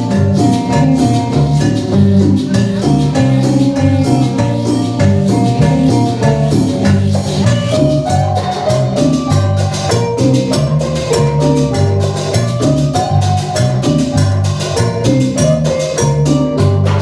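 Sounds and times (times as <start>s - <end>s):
live band latin dance music: 0.0s - 17.0s.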